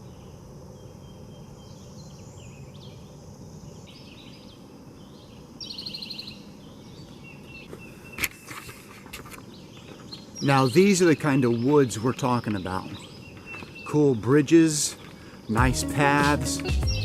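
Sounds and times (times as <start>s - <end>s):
outdoor background noise: 0.0s - 17.0s
wild birds calling: 0.0s - 17.0s.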